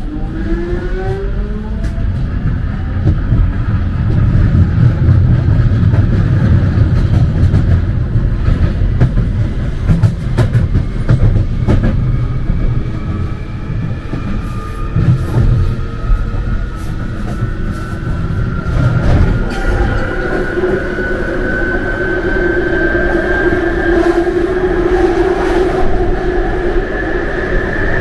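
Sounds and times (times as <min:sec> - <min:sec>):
train rumble inside carriage: 0:00.0 - 0:28.0.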